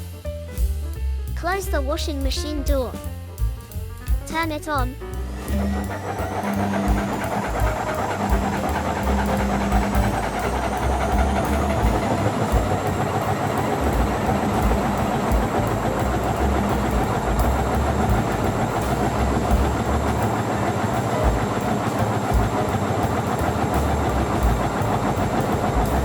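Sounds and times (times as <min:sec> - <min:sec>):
low thumps: 0:02.7 - 0:26.0
washing machine drum tumbling: 0:05.1 - 0:26.0.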